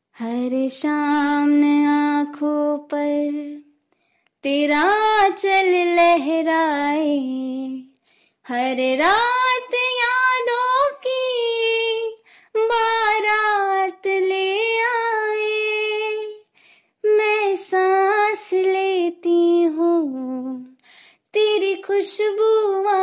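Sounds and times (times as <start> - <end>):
woman singing unaccompanied: 0.2 - 3.7, 4.4 - 7.9, 8.5 - 16.4, 17.0 - 23.0.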